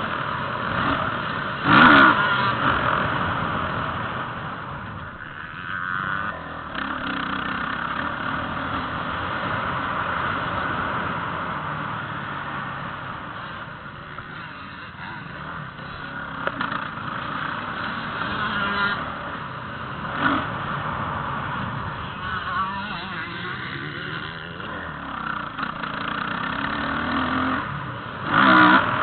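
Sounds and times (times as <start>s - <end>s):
motocross bike engine revving: 0.0s - 29.0s.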